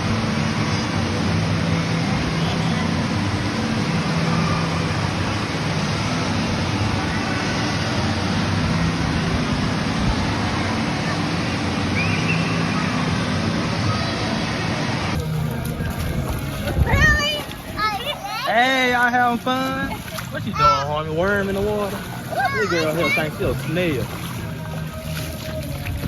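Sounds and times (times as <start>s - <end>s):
rushing water: 0.0s - 26.0s
many voices echoing: 0.3s - 26.0s.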